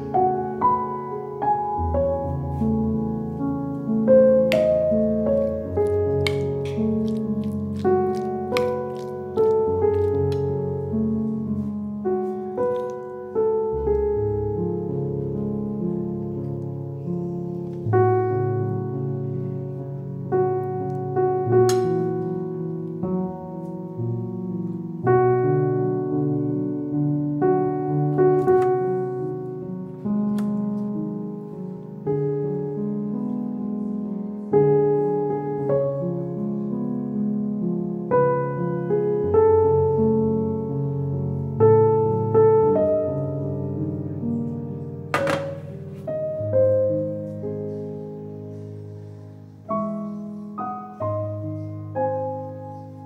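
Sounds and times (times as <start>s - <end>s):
calm piano music: 0.0s - 53.0s.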